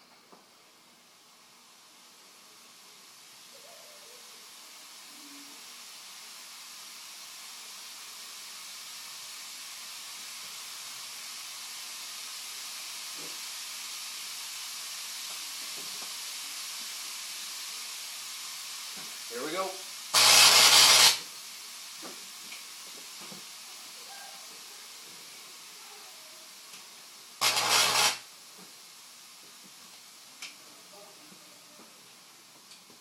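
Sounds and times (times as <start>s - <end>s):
steam cleaner hissing: 0.6s - 33.0s.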